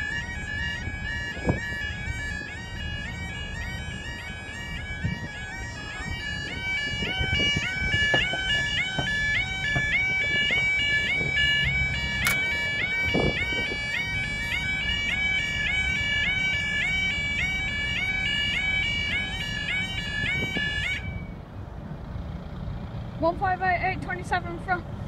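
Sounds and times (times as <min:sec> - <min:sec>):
warbling warning alarm: 0:00.0 - 0:21.3.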